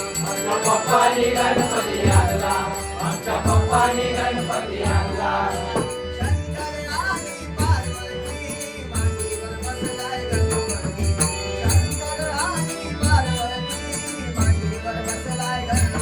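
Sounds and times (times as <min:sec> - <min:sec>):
hand cymbals ringing: 0:00.0 - 0:16.0.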